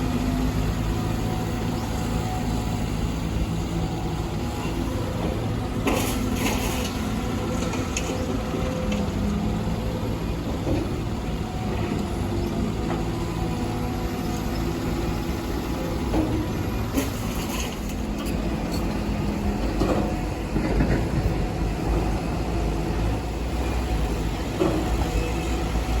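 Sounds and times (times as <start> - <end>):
diesel excavator engine running: 0.0 - 26.0.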